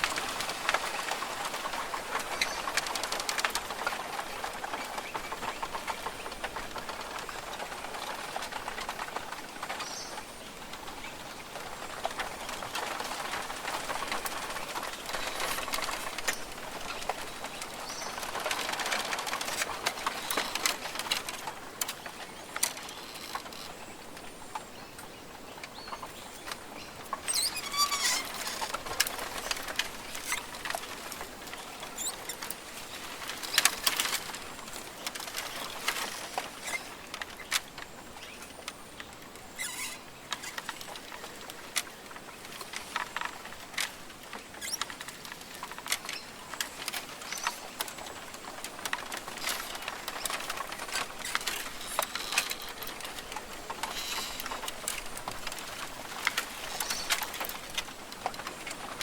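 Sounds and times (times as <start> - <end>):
rainforest hiss with patters: 0.0 - 59.0.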